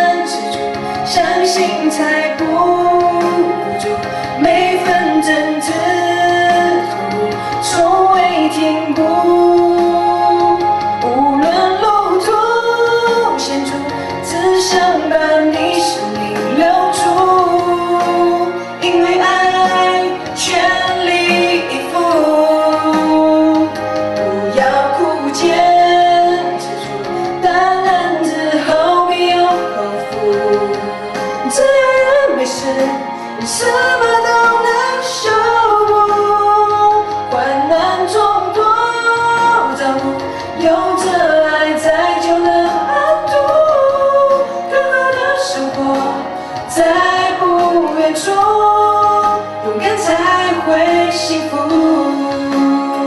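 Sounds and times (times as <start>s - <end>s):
instrumental accompaniment: 0.0s - 53.0s
person singing into a microphone: 0.0s - 53.0s.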